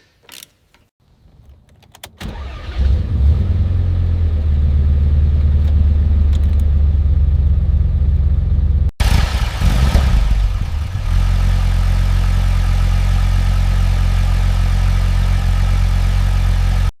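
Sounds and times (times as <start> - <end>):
car engine idling: 2.3 - 16.9.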